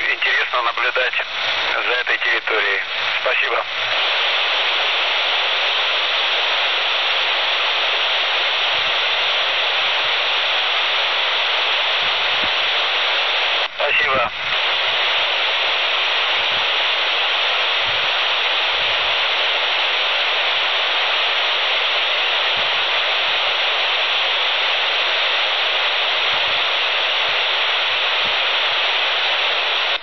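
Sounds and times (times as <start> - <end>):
radio receiver hiss: 0.0 - 30.0.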